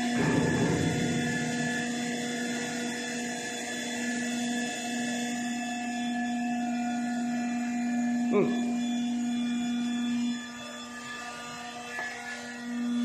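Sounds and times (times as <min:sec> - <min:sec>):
bin washing machine motor hum: 0:00.0 - 0:13.0.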